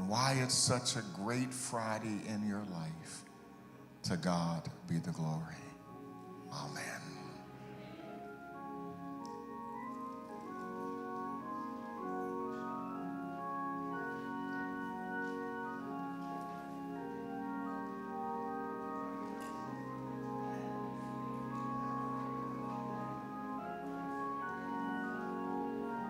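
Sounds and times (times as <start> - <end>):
organ playing slow chords: 0.0 - 26.0.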